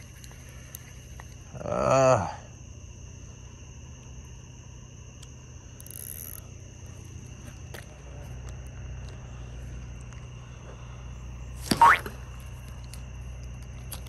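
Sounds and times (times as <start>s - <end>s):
night insects chorus: 0.0s - 14.0s.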